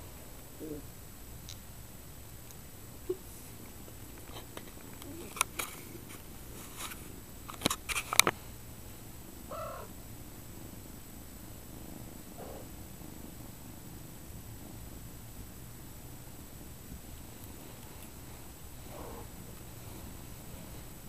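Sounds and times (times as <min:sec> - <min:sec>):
cats purring: 0:00.0 - 0:07.4, 0:08.3 - 0:21.0.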